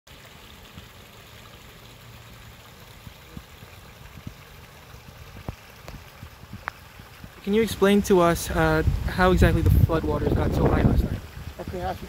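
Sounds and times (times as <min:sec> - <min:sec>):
flowing river water: 0:00.1 - 0:12.0.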